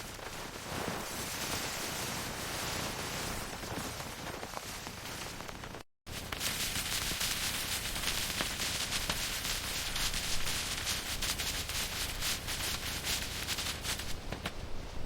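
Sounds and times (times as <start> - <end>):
crackling hiss: 0.0 - 15.0.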